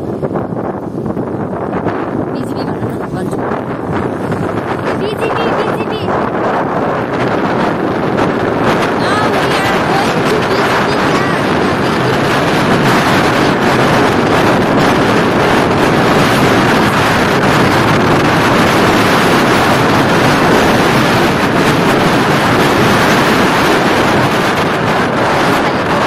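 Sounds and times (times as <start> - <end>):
road noise: 0.0 - 26.0
scooter engine running: 0.0 - 26.0
wind rush over microphone: 0.0 - 26.0.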